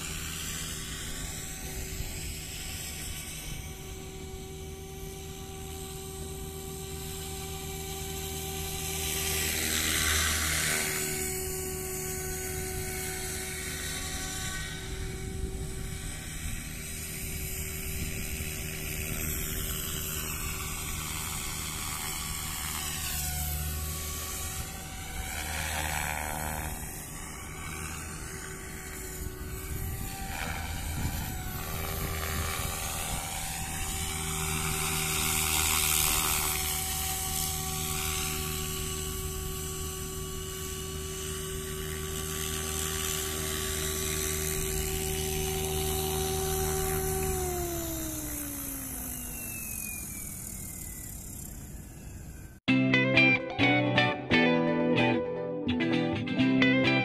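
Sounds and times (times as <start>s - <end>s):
rc helicopter motor whine: 0.0s - 52.7s.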